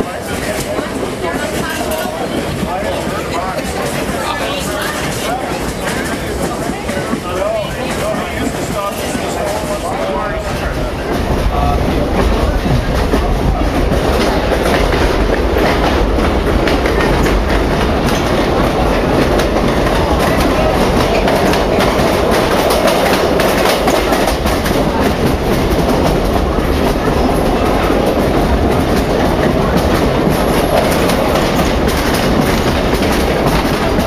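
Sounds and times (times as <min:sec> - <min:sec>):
train wheels rumbling on track: 0:00.0 - 0:34.0
wheels clicking over rail joints: 0:00.0 - 0:34.0.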